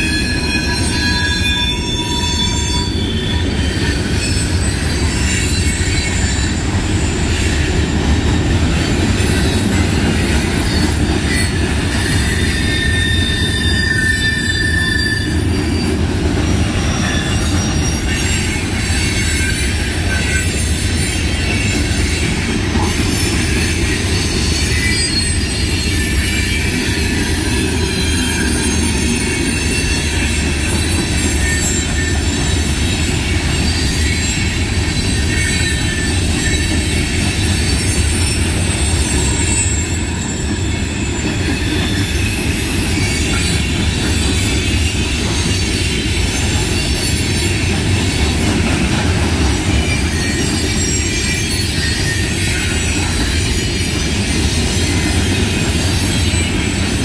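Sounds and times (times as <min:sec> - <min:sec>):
high wheel squeals: 0:00.0 - 0:57.0
train wheels rumbling on rails: 0:00.0 - 0:57.0.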